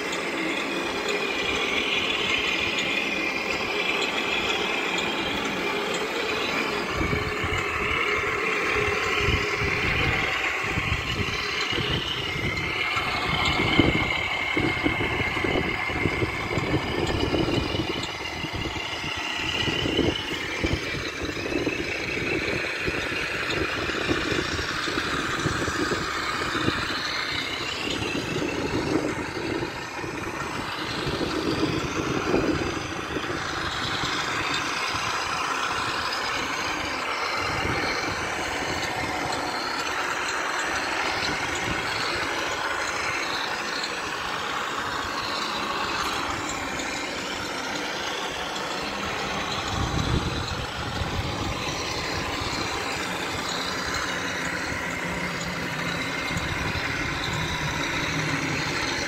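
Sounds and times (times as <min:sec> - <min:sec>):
radio-controlled truck motors running: 0:00.0 - 0:59.0.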